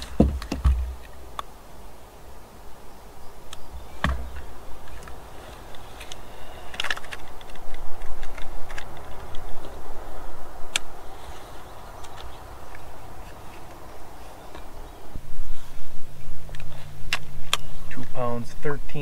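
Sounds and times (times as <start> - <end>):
wind and water rumble: 0.0 - 18.2.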